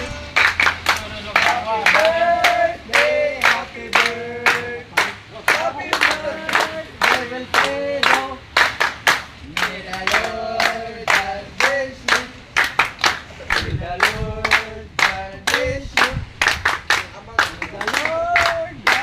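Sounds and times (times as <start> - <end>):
group singing: 0.0 - 12.4, 13.5 - 16.2, 17.7 - 19.0
hands clapping: 0.0 - 19.0.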